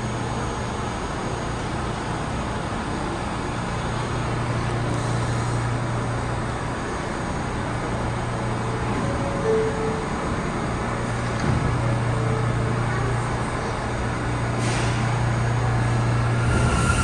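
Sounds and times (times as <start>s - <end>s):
subway train low hum: 0.0s - 17.0s.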